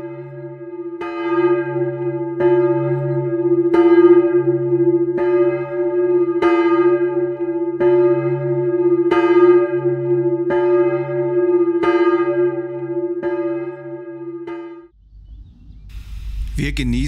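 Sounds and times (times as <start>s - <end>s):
large bell tolling: 0.0s - 15.0s.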